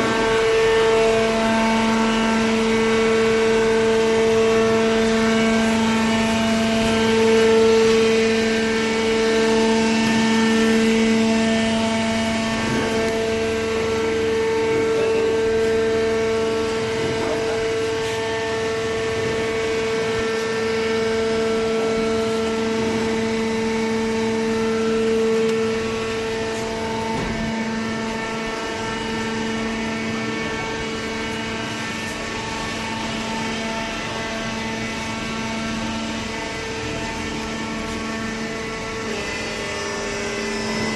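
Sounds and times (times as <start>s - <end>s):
paper baler machine droning hum: 0.0s - 40.9s.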